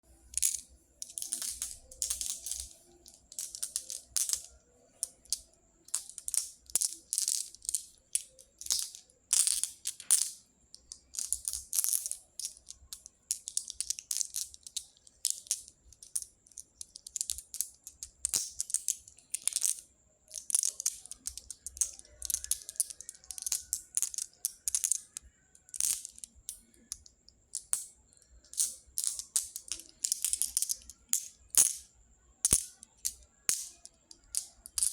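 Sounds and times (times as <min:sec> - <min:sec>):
pebbles clattering: 0:00.2 - 0:34.9.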